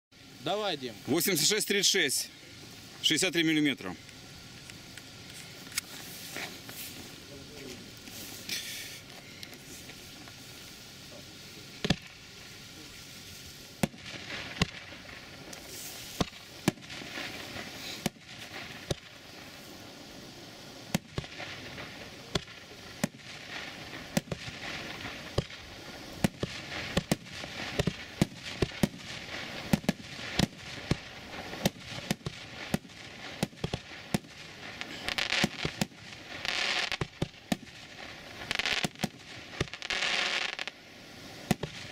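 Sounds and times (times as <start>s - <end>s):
firework hissing and crackling: 0.1s - 41.9s
firework shots and bursts: 0.2s - 41.9s.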